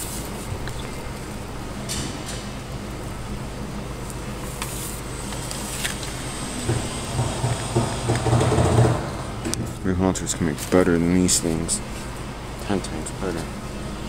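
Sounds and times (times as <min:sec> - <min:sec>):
shop background hum: 0:00.0 - 0:14.0.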